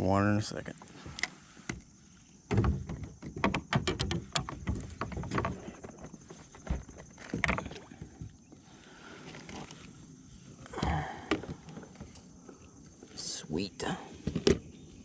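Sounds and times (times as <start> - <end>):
knocks and rattles against kayak: 0.7 - 13.2, 13.9 - 15.0.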